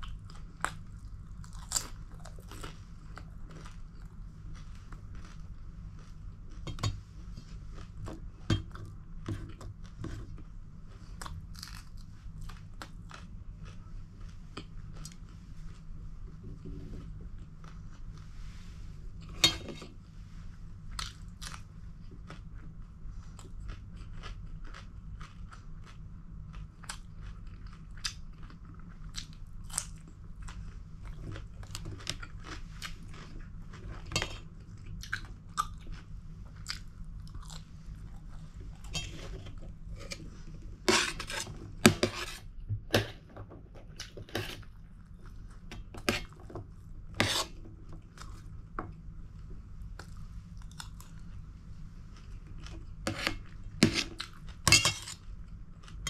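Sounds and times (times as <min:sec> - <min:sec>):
person chewing and crunching food: 0:00.0 - 0:18.4, 0:20.8 - 0:56.0.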